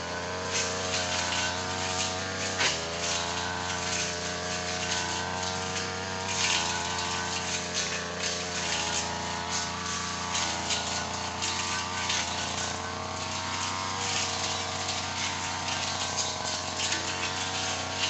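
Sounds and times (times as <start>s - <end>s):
small petrol engine running: 0.0s - 18.0s.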